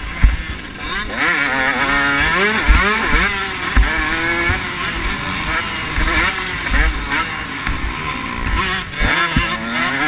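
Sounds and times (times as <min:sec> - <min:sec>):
bike thumping over bumps: 0:00.0 - 0:10.0
motocross bike engine revving: 0:00.0 - 0:10.0.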